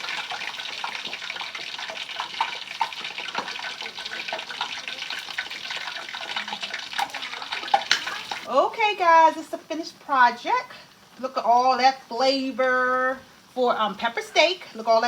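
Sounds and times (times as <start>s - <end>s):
food sizzling and bubbling in a pan: 0.0s - 15.0s.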